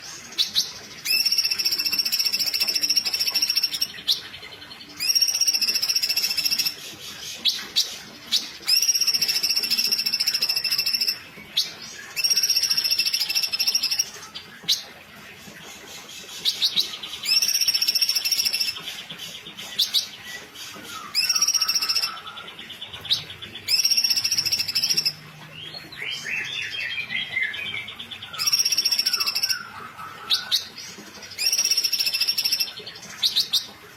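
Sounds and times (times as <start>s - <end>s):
bird singing buzzy trills: 0.0s - 33.9s.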